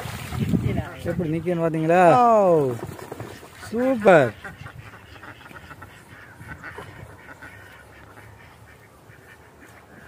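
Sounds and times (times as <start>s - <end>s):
ducks quacking: 0.1s - 10.0s.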